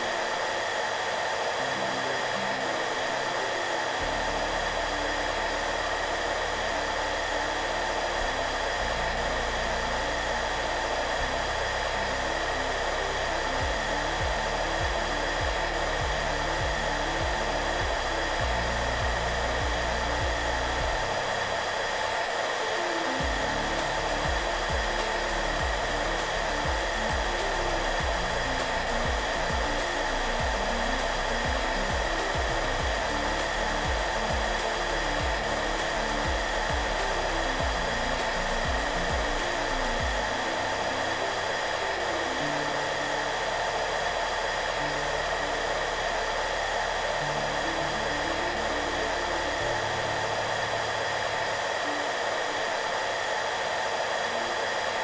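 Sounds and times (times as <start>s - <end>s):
hair dryer blowing: 0.0s - 55.0s
soft background music: 0.0s - 55.0s.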